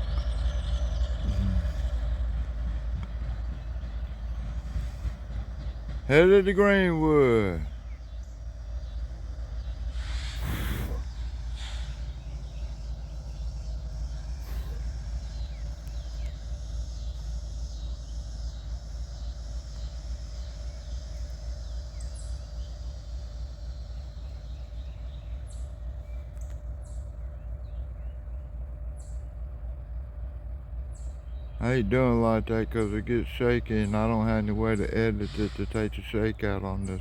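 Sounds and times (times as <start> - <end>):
birds chirping: 0.0 - 37.0
diesel locomotive rumble: 0.0 - 37.0.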